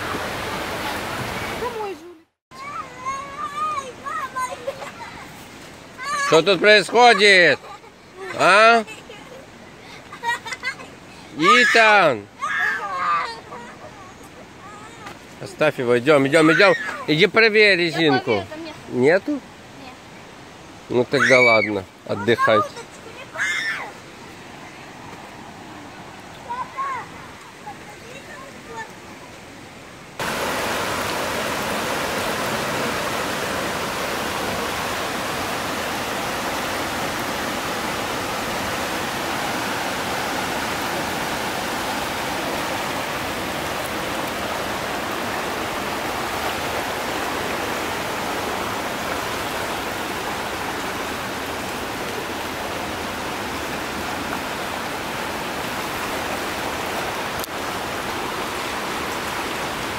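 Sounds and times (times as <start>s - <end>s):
river rushing over rapids: 0.0s - 59.9s.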